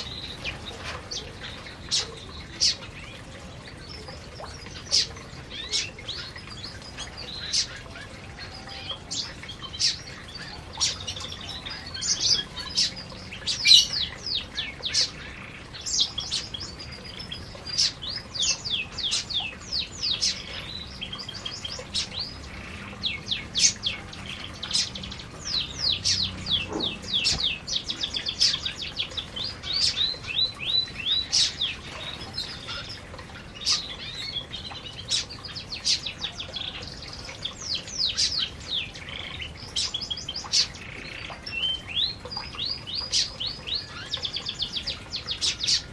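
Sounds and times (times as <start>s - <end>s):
canaries chirping and trilling: 0.0s - 45.9s.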